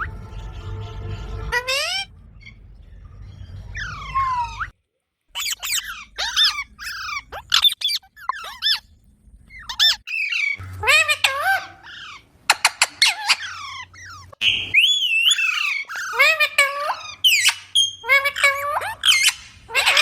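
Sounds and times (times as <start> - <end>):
parrot squawking and chirping: 1.2 - 4.8, 5.4 - 8.9, 9.5 - 20.0.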